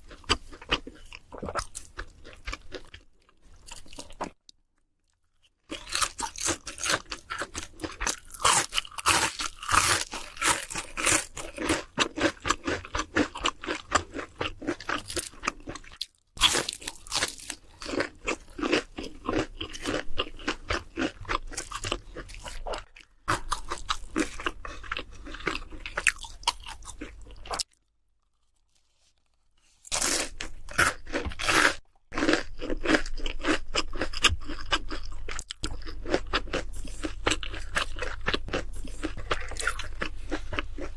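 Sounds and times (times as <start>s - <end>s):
crunching crisp fried food: 0.0s - 40.9s.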